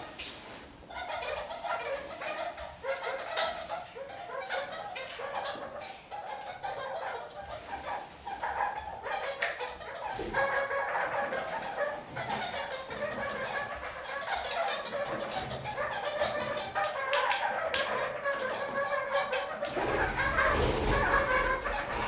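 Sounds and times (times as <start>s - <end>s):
parakeets chattering: 0.0s - 22.0s.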